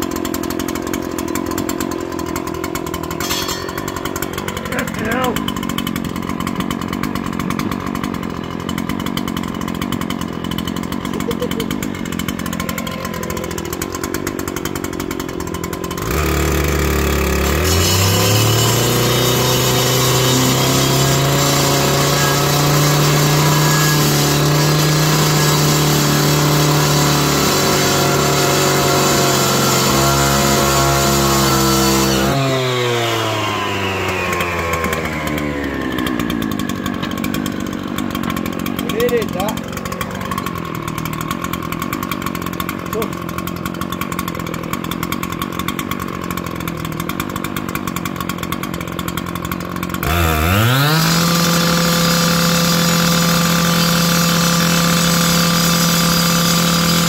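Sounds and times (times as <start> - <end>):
power tool motor running: 0.0 - 57.0.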